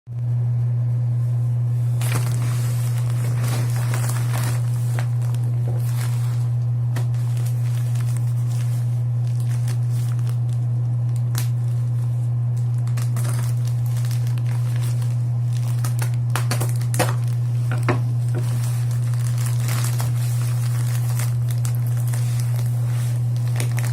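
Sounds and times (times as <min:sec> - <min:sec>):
loud steady low hum: 0:00.1 - 0:23.9
plastic packaging crinkling: 0:01.8 - 0:23.9.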